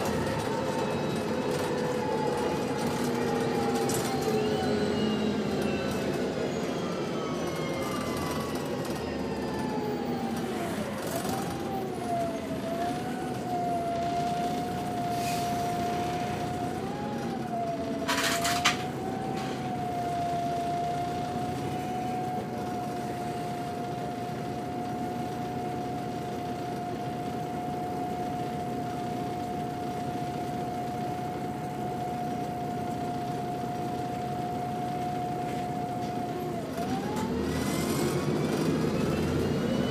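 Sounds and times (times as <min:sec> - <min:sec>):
bus drivetrain whine: 0:00.0 - 0:39.9.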